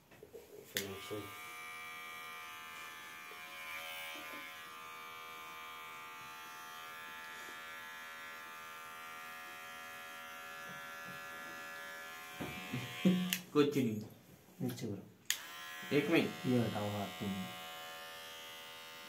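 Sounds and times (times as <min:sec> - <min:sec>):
electric hair clipper buzzing: 0:00.8 - 0:13.5, 0:15.3 - 0:19.0.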